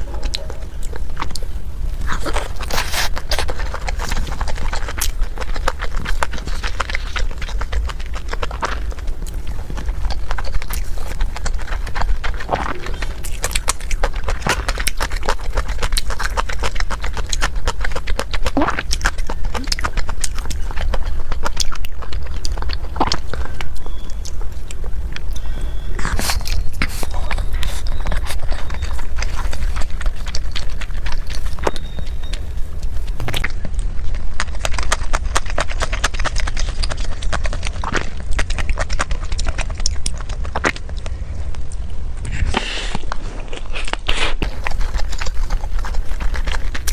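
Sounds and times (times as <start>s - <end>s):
chewing and crunching food: 0.0s - 46.9s
steady low hum: 0.0s - 46.9s.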